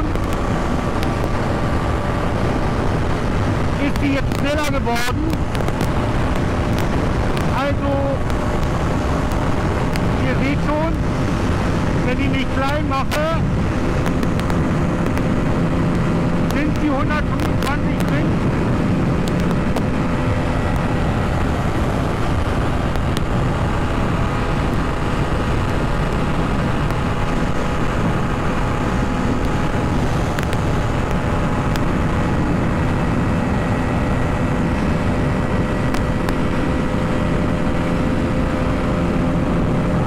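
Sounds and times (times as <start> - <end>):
motorcycle engine at high revs: 0.0 - 40.0
wind and road noise: 0.0 - 40.0.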